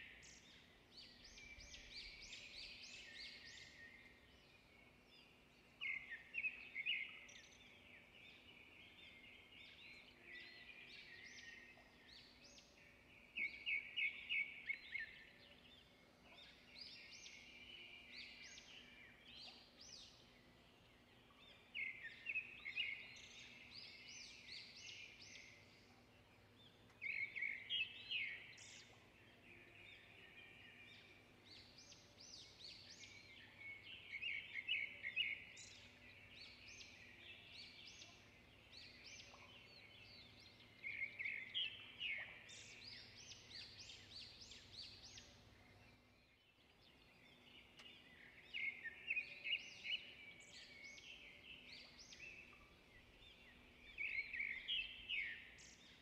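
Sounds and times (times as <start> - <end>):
faint songbird chirping: 0.0 - 56.0.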